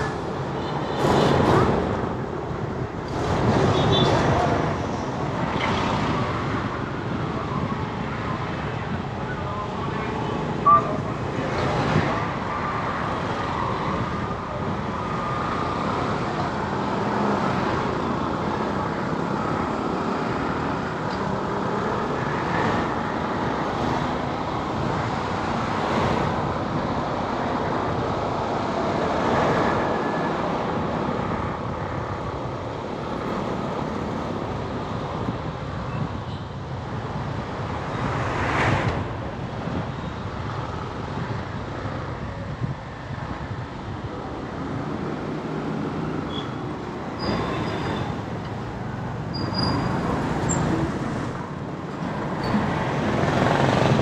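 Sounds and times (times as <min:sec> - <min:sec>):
road traffic noise: 0:00.0 - 0:54.0
vehicles passing close by: 0:00.0 - 0:54.0.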